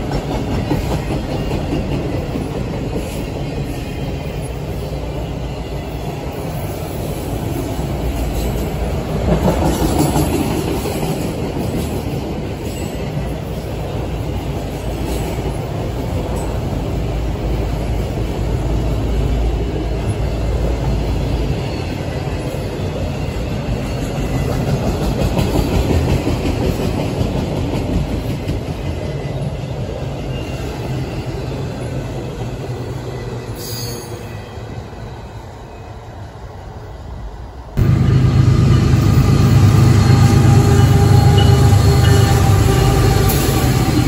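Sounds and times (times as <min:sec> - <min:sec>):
train rumbling past: 0:00.0 - 0:44.0.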